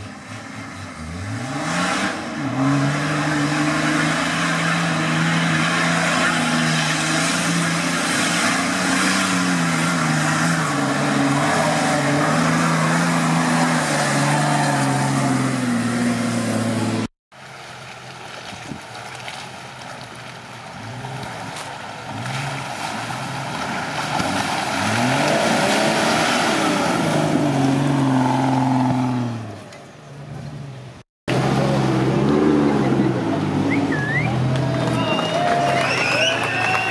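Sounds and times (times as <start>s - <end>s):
off-road engine revving: 0.0s - 17.1s, 20.6s - 36.9s
off-road engine working hard in mud: 0.0s - 36.9s.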